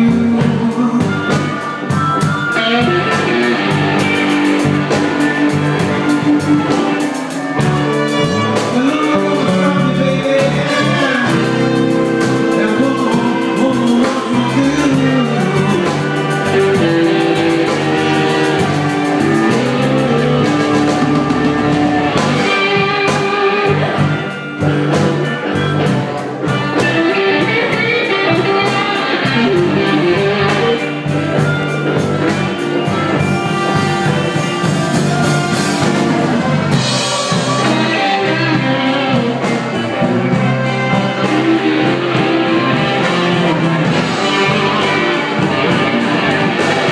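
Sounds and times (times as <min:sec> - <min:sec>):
blues band playing: 0:00.0 - 0:46.9
drum kit beat: 0:00.0 - 0:46.9
guitar: 0:00.0 - 0:46.9.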